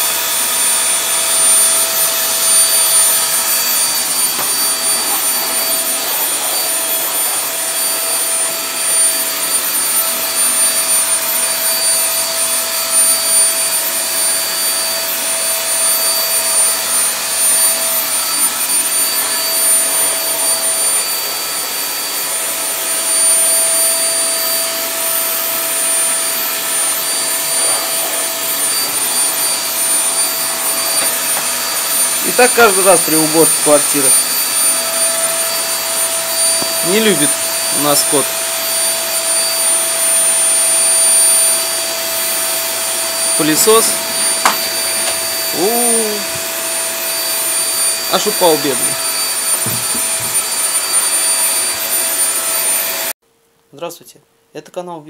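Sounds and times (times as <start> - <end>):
vacuum cleaner running: 0.0 - 53.2.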